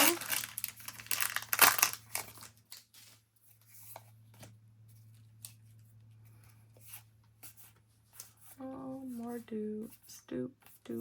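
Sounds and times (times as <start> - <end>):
cards and wrappers rustling: 0.0 - 9.4.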